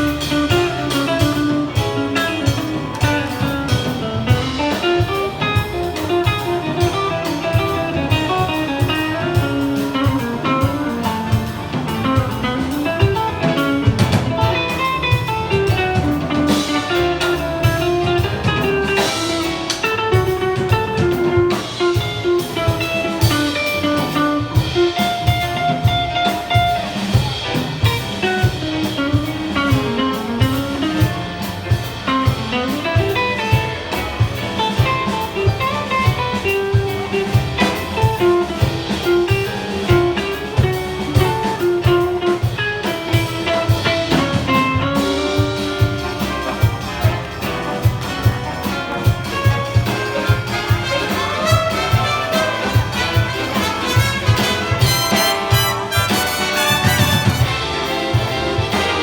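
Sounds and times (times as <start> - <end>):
bass: 0.0 - 59.0
big band jazz playing: 0.0 - 59.0
drum kit beat: 0.0 - 59.0
guitar: 0.0 - 59.0.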